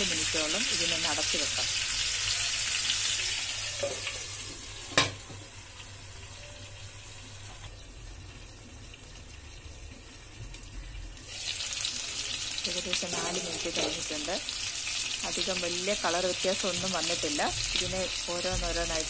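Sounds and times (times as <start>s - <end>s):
chicken sizzling in a frying pan: 0.0s - 19.0s.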